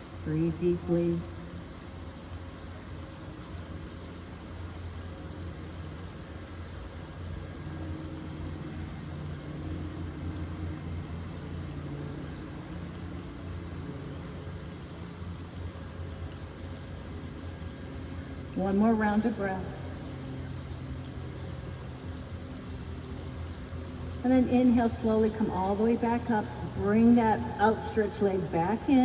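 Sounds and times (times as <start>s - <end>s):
distant road traffic rumble: 0.0s - 29.0s
engine hum: 0.0s - 29.0s.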